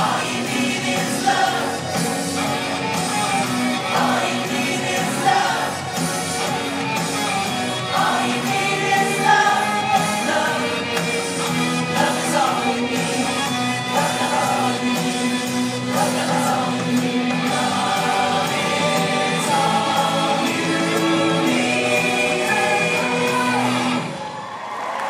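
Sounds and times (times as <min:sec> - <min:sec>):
group of people singing: 0:00.0 - 0:24.2
rock or pop backing music: 0:00.0 - 0:24.4.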